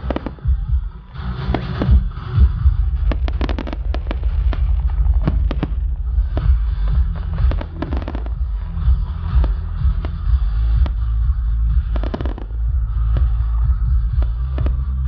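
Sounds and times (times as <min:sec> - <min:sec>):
fireworks bursting and crackling: 0:00.0 - 0:15.0
low rumble: 0:00.0 - 0:15.0.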